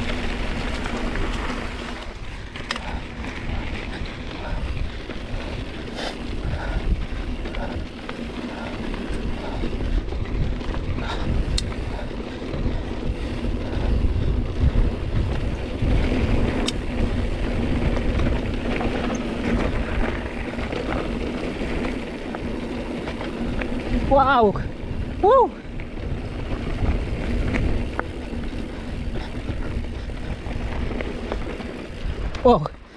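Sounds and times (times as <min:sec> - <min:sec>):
bike rumbling and rattling: 0:00.0 - 0:32.9
wind buffeting microphone: 0:00.0 - 0:32.9.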